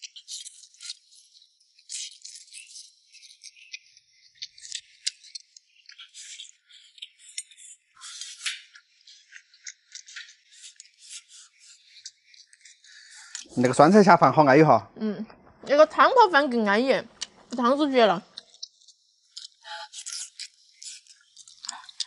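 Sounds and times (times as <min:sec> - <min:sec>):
chewing: 0:00.0 - 0:13.6, 0:17.1 - 0:22.0.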